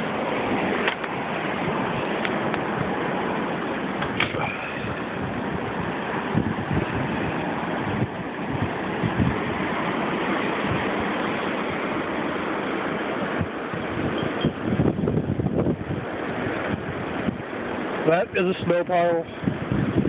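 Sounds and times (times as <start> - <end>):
blizzard wind rushing: 0.0 - 20.0
wind buffeting microphone: 0.0 - 20.0.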